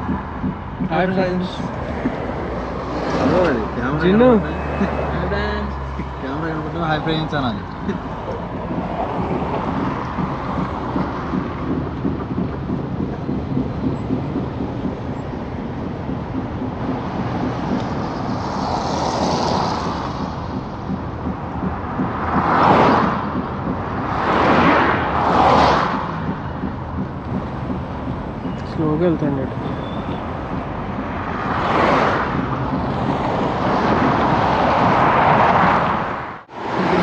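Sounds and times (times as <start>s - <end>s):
rushing swells: 0.0s - 37.0s
vehicle engine and road noise: 0.0s - 37.0s.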